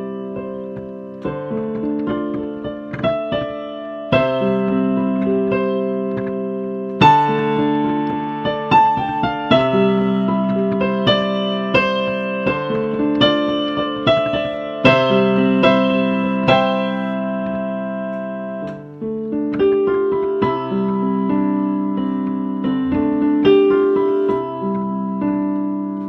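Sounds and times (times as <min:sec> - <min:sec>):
solo piano piece: 0:00.0 - 0:26.0.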